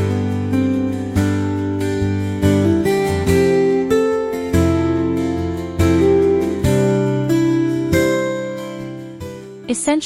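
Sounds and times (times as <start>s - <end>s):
acoustic guitar plucking chords: 0.0s - 10.0s.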